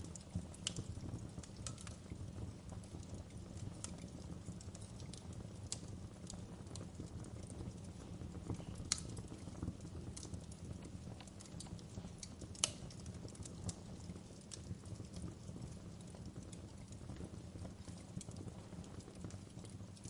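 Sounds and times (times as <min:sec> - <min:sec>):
sharp pops and snaps of fire: 0:00.0 - 0:20.0
wood fire crackling: 0:00.0 - 0:20.0.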